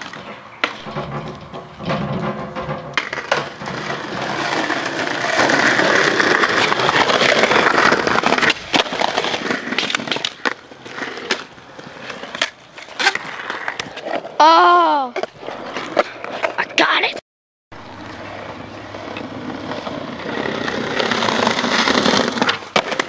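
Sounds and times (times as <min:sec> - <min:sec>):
skateboard clacking: 0:00.0 - 0:14.4, 0:17.8 - 0:23.0
skateboard wheels rolling on concrete: 0:00.0 - 0:23.0.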